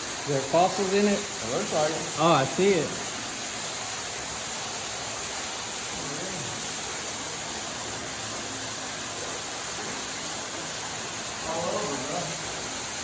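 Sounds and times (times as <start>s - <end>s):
waterfall rushing in a cave: 0.0s - 13.0s.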